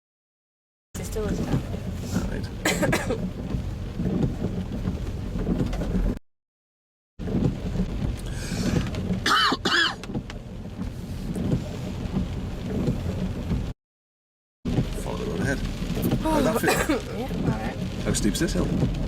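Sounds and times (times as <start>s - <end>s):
rain on car: 1.0s - 6.2s, 7.2s - 13.8s, 14.7s - 19.0s
road noise inside car: 1.0s - 6.2s, 7.2s - 13.8s, 14.7s - 19.0s.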